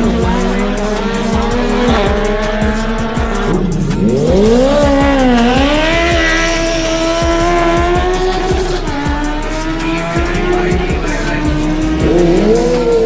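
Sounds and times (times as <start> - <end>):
hip-hop music with kick drum: 0.0 - 13.0
motorcycle engine revving: 0.0 - 13.0.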